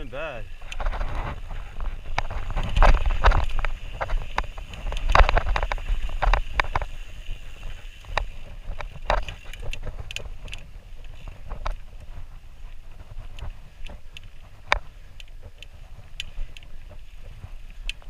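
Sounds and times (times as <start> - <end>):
bike clicks and rattles: 0.0 - 18.0
tyres and wind rumble: 0.0 - 18.0.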